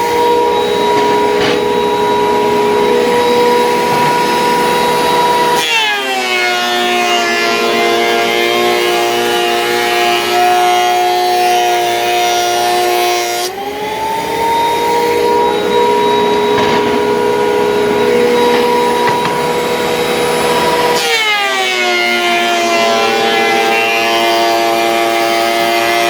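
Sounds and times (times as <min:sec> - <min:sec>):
thickness planer motor whine: 0:00.0 - 0:26.0.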